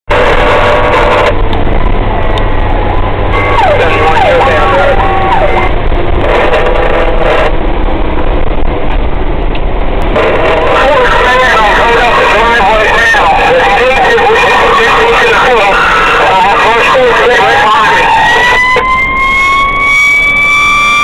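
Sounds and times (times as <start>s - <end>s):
fire engine siren: 0.1s - 7.6s, 10.0s - 21.0s
engine and road noise: 0.1s - 21.0s.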